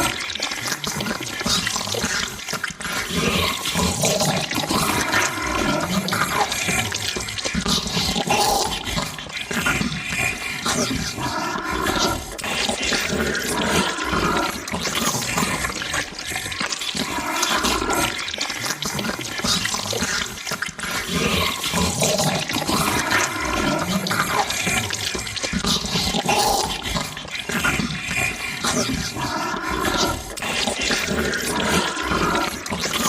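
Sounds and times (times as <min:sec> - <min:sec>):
chewing and slobbering: 0:00.0 - 0:33.0
growl-like vocal tones: 0:00.0 - 0:33.0.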